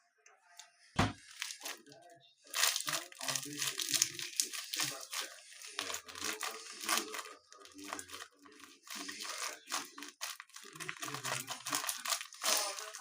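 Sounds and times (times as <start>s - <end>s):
crinkling and crunching: 1.2s - 13.0s.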